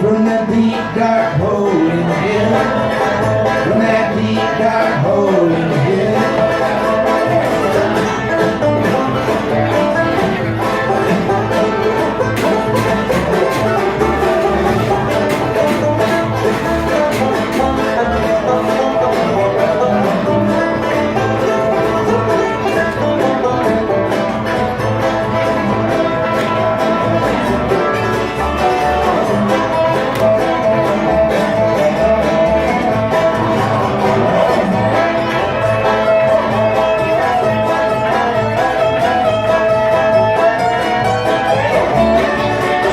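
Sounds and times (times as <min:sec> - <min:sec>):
bluegrass string band playing: 0:00.0 - 0:42.9.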